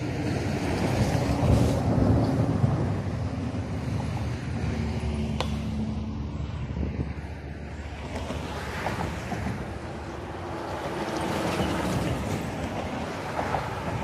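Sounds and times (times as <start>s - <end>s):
road traffic humming: 0.0s - 14.0s
wind noise on microphone: 0.0s - 14.0s.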